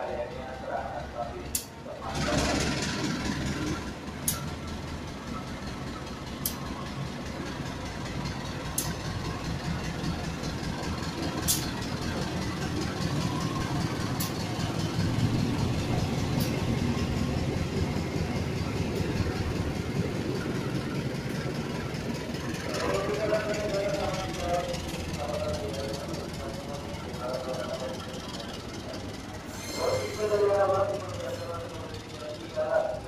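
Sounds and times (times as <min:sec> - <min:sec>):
locomotive engine humming: 0:00.0 - 0:33.0
train coaches rumbling on rails: 0:00.0 - 0:33.0
sharp train clicks: 0:01.0 - 0:32.9.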